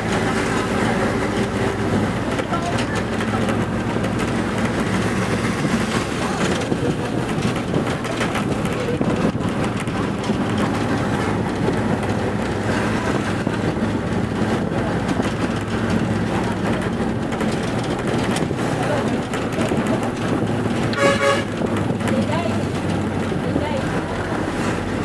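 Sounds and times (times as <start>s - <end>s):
rattles: 0.0s - 25.0s
vehicle cabin drone: 0.0s - 25.0s.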